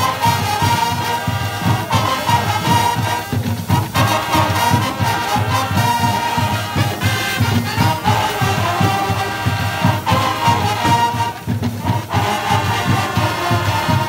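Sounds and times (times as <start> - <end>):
marching drumline beating: 0.0 - 14.0
trumpets playing held notes: 0.0 - 14.0.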